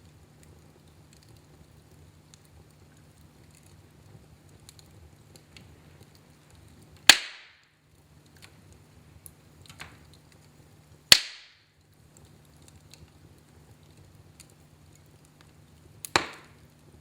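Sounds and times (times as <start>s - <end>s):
wood fire crackling: 0.0s - 17.0s
wood fire sharp pops: 0.0s - 17.0s.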